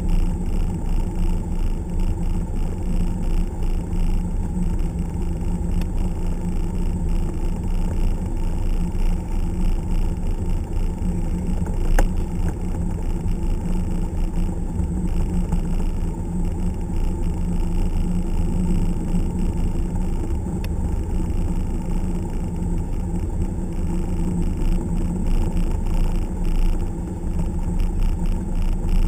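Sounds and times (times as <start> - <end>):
aircraft engine idling in cabin: 0.0 - 29.0.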